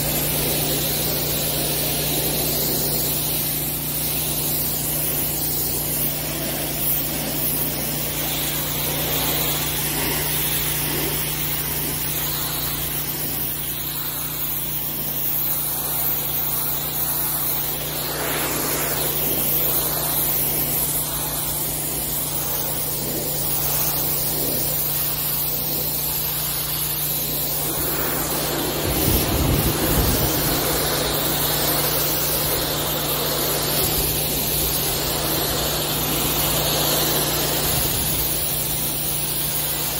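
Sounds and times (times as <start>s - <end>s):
pressure washer humming: 0.0s - 39.9s
water jet hissing on concrete: 0.0s - 39.9s.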